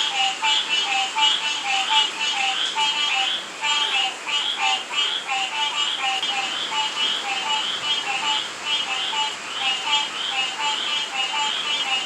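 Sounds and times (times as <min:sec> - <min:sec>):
frogs and toads calling: 0:00.0 - 0:12.0
rainfall hiss: 0:00.0 - 0:12.0.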